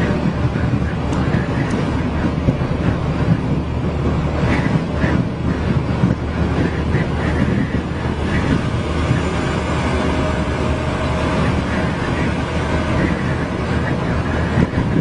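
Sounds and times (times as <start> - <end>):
low engine drone: 0.0 - 15.0
wind and road noise: 0.0 - 15.0.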